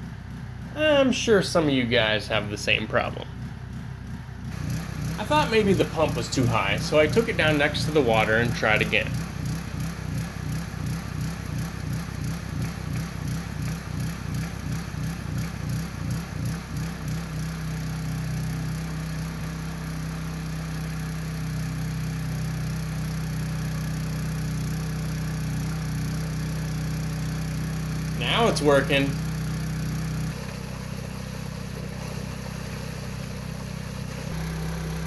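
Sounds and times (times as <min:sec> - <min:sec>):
pump engine running: 0:00.0 - 0:35.0.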